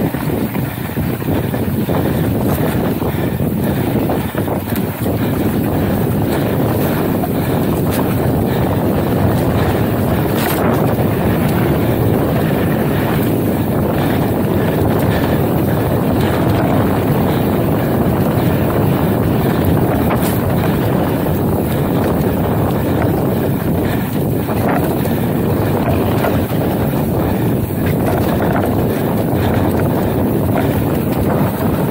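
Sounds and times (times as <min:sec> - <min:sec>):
bike tyres rolling on sandy dirt: 0:00.0 - 0:31.9
wind on microphone: 0:00.0 - 0:31.9.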